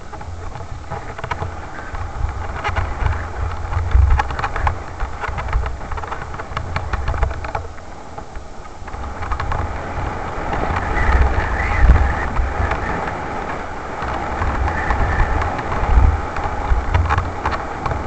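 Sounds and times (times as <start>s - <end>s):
bike rattling and clicking: 0.0s - 18.0s
wind buffeting microphone: 0.0s - 18.0s.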